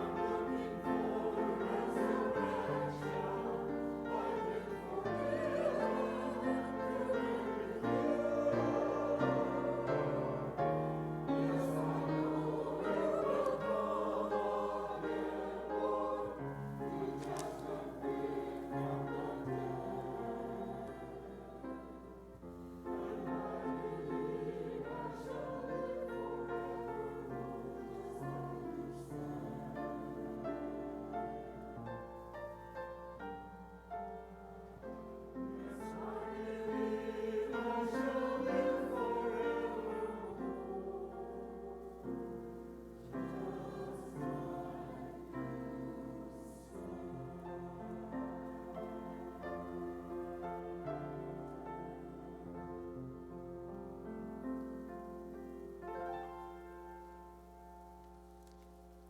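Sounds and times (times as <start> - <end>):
church choir singing: 0.0 - 59.0
piano: 0.0 - 59.0.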